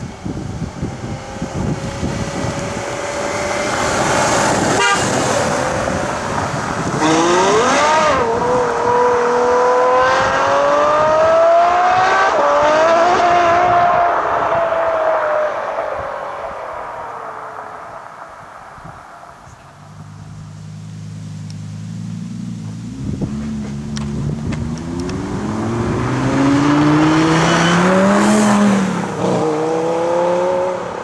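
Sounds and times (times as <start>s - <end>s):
car engine accelerating hard: 0.2s - 15.1s, 19.8s - 31.0s.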